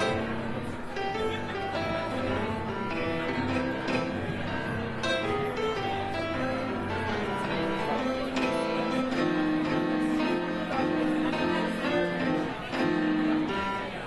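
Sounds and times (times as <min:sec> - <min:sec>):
piano playing chords and melody: 0:00.0 - 0:14.0.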